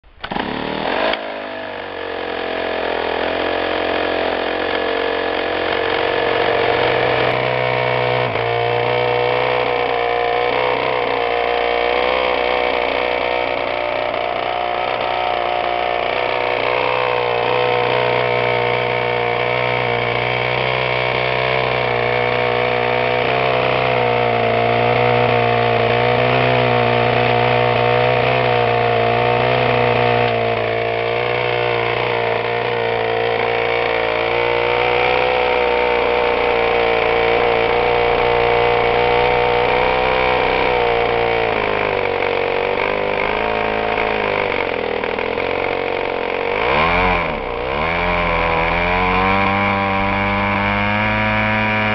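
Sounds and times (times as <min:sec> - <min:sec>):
electric starter spinning: 0:00.0 - 0:51.9
model aircraft engine running: 0:00.1 - 0:51.9.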